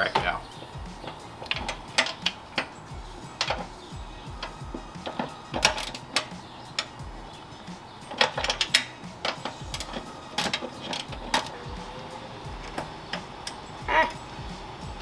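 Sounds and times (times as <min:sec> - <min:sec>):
ratchet wrench clicking: 0:00.8 - 0:13.7.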